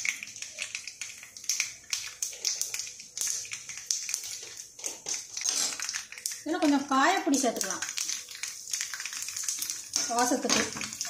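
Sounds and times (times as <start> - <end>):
oil sizzling: 0.0 - 11.0
seeds popping in hot oil: 0.0 - 11.0.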